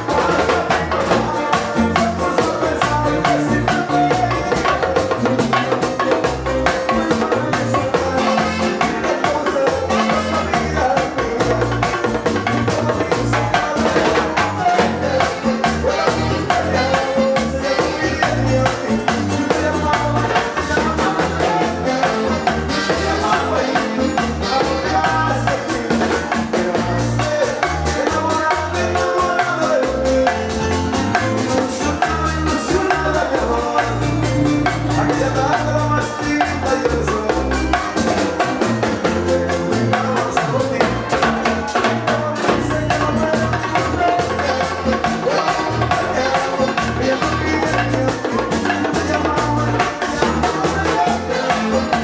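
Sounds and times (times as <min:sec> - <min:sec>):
latin dance band playing: 0:00.0 - 0:52.0
lead singer singing: 0:00.0 - 0:52.0
saxophone: 0:00.0 - 0:52.0.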